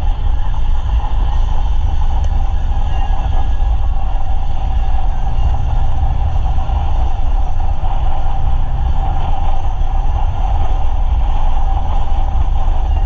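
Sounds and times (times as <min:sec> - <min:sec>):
off-road vehicle engine rumble: 0:00.0 - 0:13.0
wind on microphone: 0:00.0 - 0:13.0.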